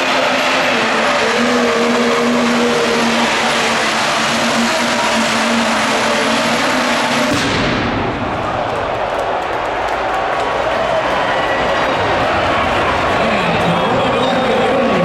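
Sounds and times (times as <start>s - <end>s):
engine running at high revs: 0.0s - 7.8s, 10.2s - 15.0s.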